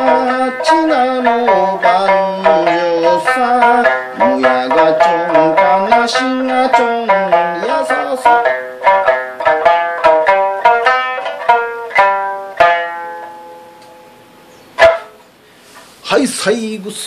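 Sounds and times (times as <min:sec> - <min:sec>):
plucked string melody: 0:00.0 - 0:16.8.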